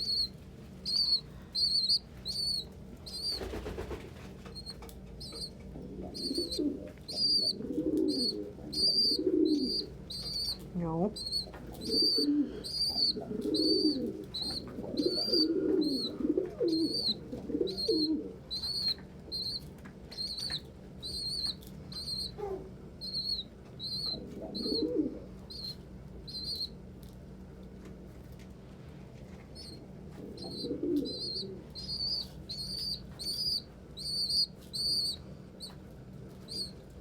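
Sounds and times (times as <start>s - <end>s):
pigeons cooing: 0.9s - 26.8s, 29.6s - 35.8s.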